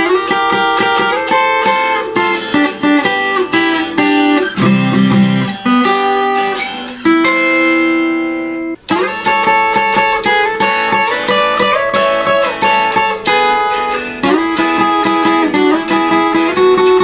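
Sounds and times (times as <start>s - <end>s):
acoustic guitar fingerpicking: 0.0s - 17.0s.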